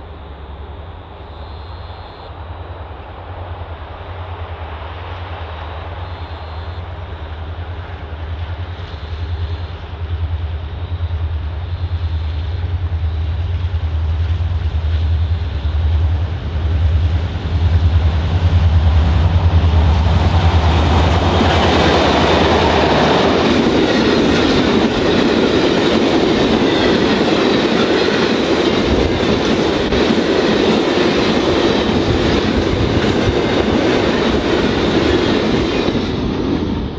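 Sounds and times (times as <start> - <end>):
diesel locomotive engine drone: 0.0 - 36.9
train wagons rumbling: 2.7 - 36.9.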